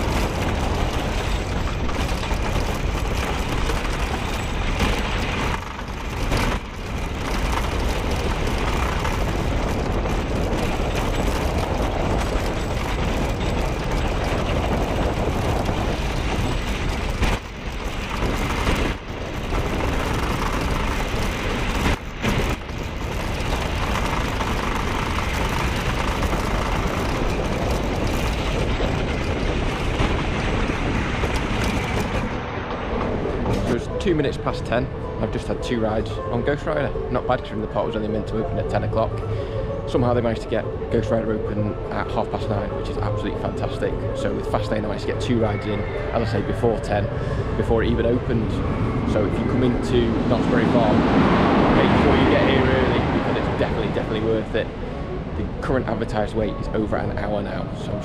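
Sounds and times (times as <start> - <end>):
wooden roller coaster rumbling: 0.0 - 58.0.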